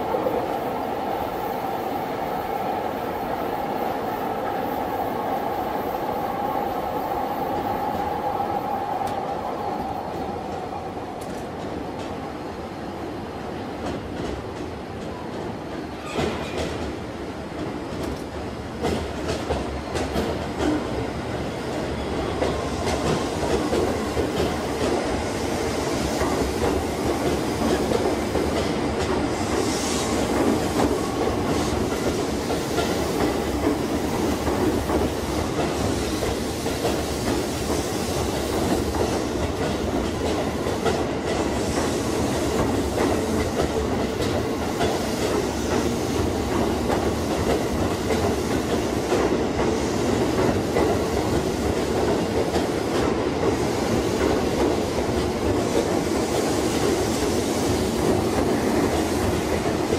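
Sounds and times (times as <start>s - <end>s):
train wheels on track: 0.0s - 59.9s.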